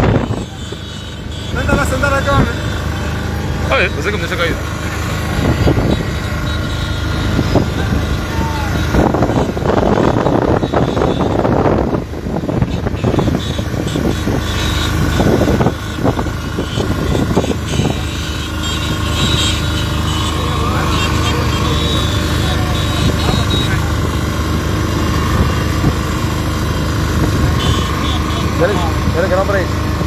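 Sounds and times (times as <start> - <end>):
many motorcycle engines droning: 0.0 - 30.0
vehicle rumble: 0.0 - 30.0.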